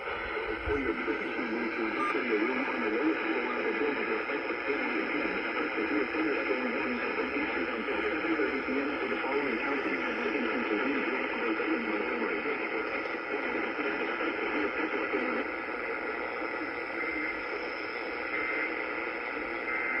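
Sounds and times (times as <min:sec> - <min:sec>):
faint wavering murmur: 0:00.0 - 0:20.0
radio static hiss: 0:00.0 - 0:20.0.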